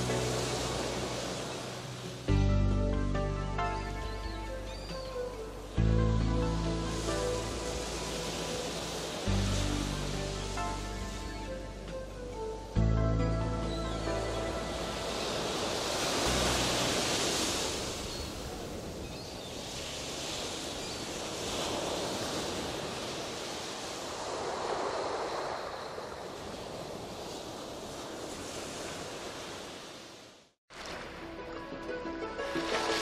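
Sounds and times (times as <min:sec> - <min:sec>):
waves washing in: 0:00.0 - 0:12.8, 0:13.4 - 0:33.0.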